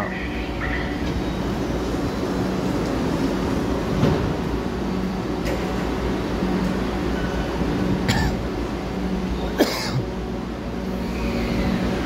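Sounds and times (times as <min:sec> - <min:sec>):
metro train humming: 0:00.0 - 0:12.0.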